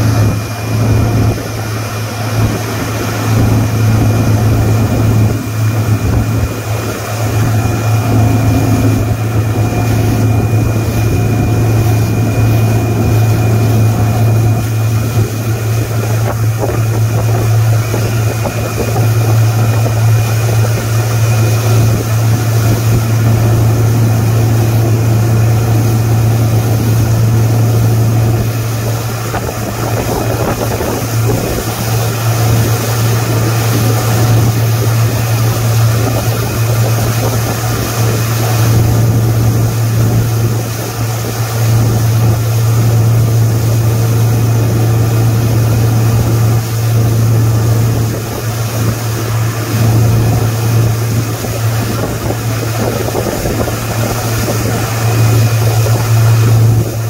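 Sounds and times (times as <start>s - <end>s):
motorboat engine droning: 0.0s - 57.0s
wind and wake water rushing: 0.0s - 57.0s.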